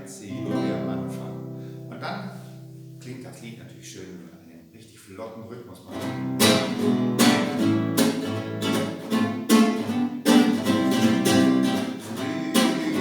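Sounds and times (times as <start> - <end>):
acoustic guitar strumming: 0.0 - 4.2, 5.9 - 13.0.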